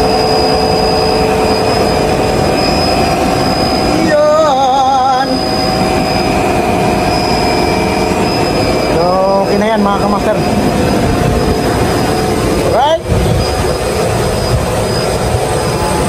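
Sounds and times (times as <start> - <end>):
refrigeration compressor humming: 0.0 - 16.0.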